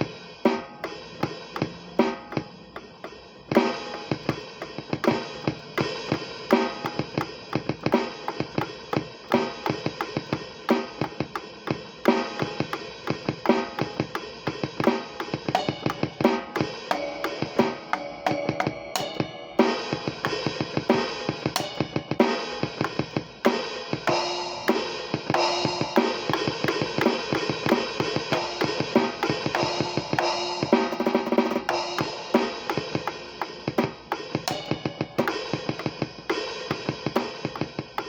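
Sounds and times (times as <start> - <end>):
ringing cymbals: 0.0 - 31.0
drum kit playing: 0.0 - 38.0.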